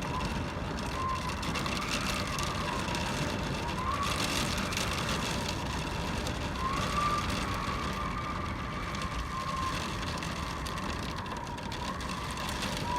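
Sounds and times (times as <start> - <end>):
heavy rain on window glass: 0.0 - 12.9.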